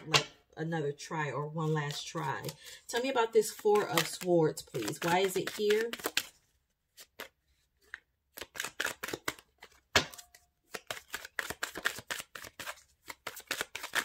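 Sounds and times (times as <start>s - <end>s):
cards being shuffled: 1.6s - 14.0s.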